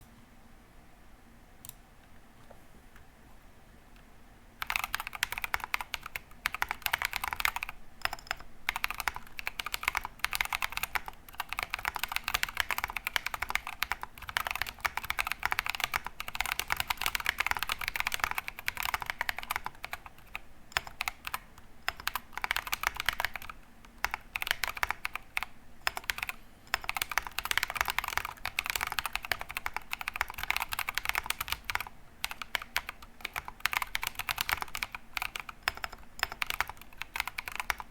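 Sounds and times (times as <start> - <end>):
mechanical keyboard typing: 4.6 - 37.9.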